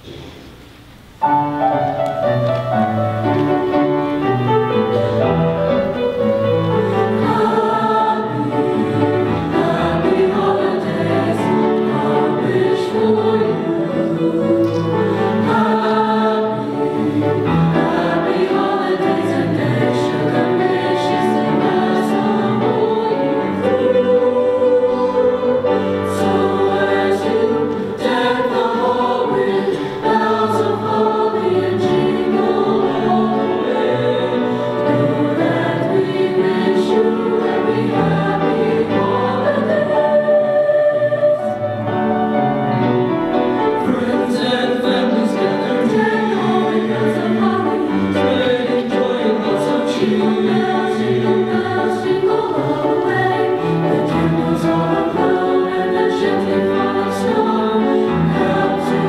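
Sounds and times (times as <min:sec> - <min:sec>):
mixed chorus singing: 0:04.8 - 0:59.0.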